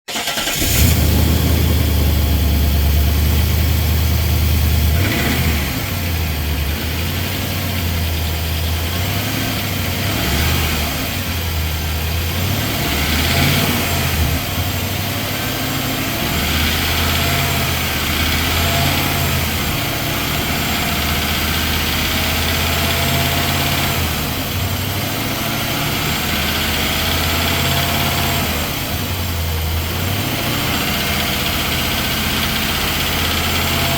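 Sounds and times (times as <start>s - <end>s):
engine knocking: 0.0s - 33.9s
car engine idling: 0.1s - 33.9s
diesel-like engine clatter: 0.1s - 33.9s.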